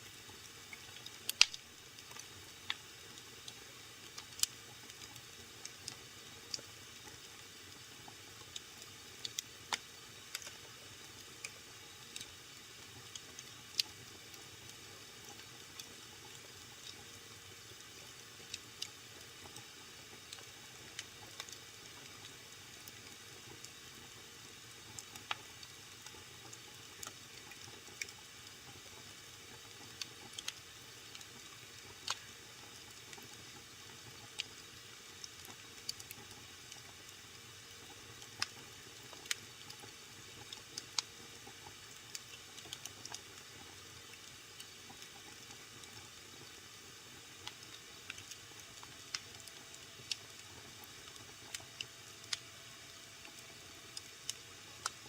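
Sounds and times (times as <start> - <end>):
soft steady hiss: 0.0 - 55.0
fire crackling and popping: 0.2 - 52.5, 53.1 - 55.0.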